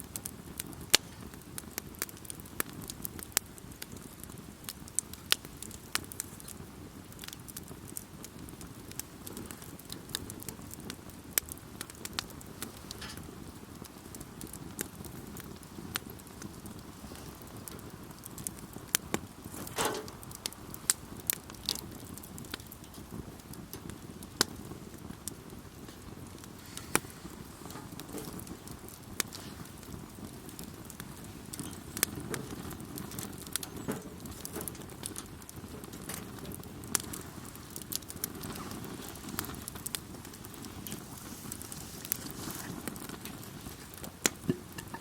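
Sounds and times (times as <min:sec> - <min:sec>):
flames rushing: 0:00.0 - 0:45.0
wood crackling and popping: 0:00.0 - 0:45.0.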